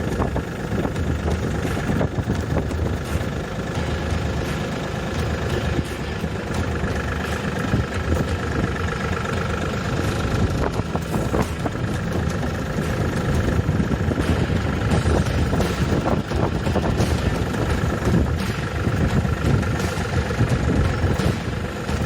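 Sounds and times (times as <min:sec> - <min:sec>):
farm machine engine running: 0:00.0 - 0:22.0.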